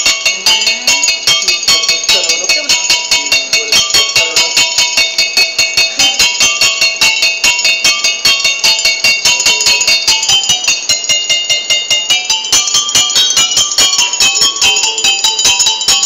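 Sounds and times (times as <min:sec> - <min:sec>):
water bottle xylophone melody: 0:00.0 - 0:16.0.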